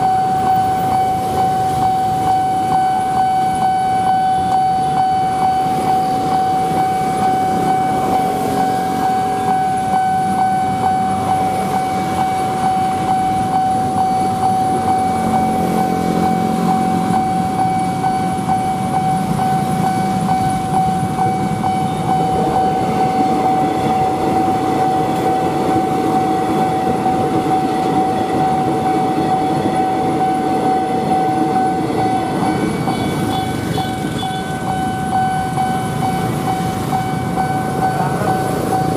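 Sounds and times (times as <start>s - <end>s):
electric train rumbling: 0.0s - 38.9s
level crossing alarm tone: 0.0s - 38.9s.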